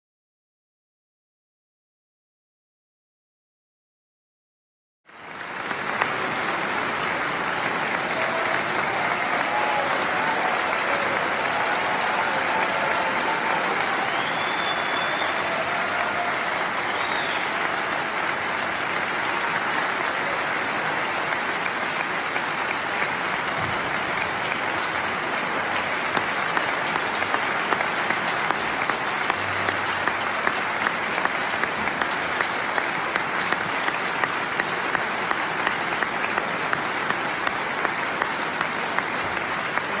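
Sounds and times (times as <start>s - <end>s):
audience applauding: 5.1s - 40.0s.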